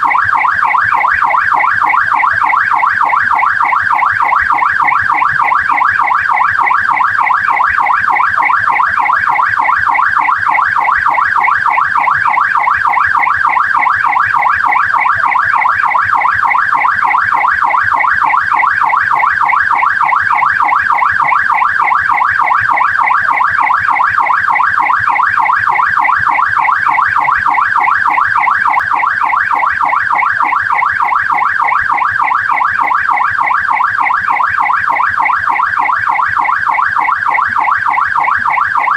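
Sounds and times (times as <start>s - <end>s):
police siren yelping: 0.0s - 38.9s.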